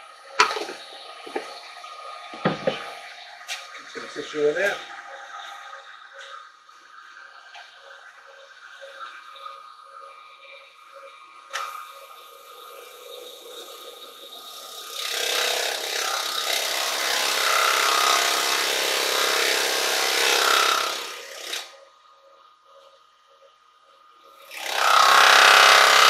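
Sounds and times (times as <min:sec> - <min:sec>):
lathe humming: 0:00.8 - 0:21.8, 0:24.5 - 0:26.0.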